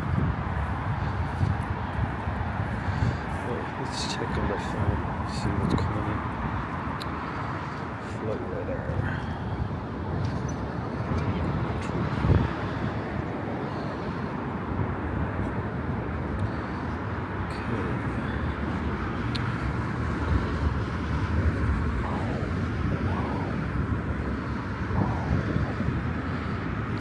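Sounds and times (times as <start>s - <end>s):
road vehicle rumble: 0.0s - 27.0s.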